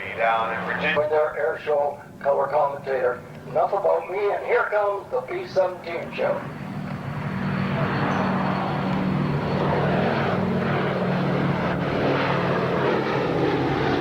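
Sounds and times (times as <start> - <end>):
propeller plane flying over: 0.0 - 14.0.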